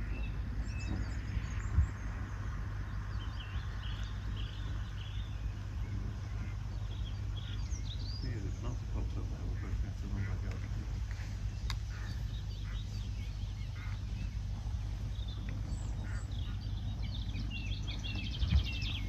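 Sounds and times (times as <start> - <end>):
low steady rumble: 0.0 - 19.0
small birds chirping and warbling: 0.0 - 19.0.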